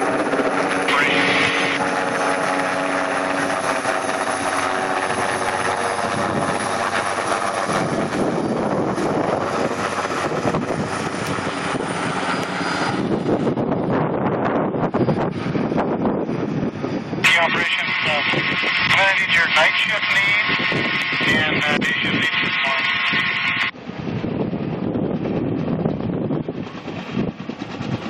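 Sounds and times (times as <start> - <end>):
helicopter flying overhead: 0.0 - 28.0.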